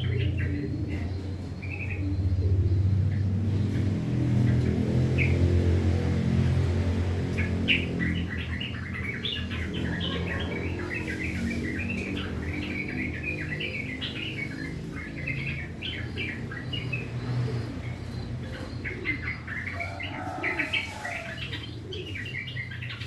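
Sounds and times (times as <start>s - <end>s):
bird singing chattering notes: 0.0s - 23.0s.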